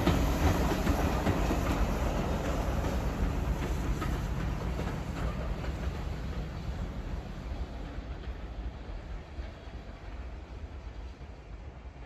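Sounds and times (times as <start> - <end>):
train wheels on track: 0.0 - 12.0.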